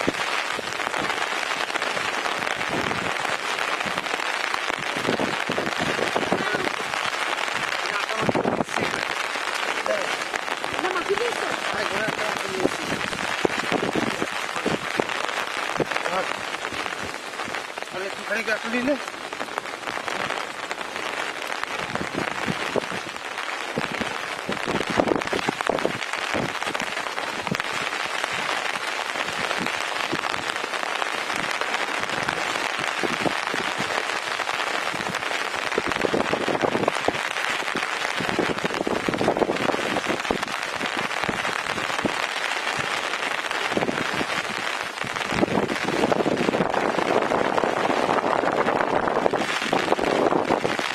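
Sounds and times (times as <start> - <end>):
close raindrops striking a surface: 0.0 - 50.9
steady rain falling: 0.0 - 50.9.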